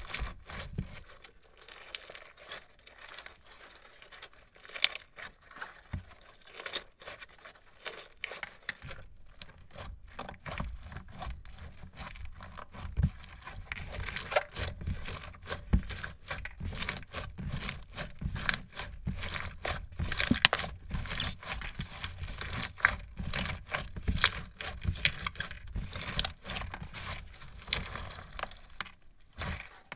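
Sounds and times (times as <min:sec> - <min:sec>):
slime crackling and popping: 0:00.0 - 0:09.0, 0:12.0 - 0:29.9.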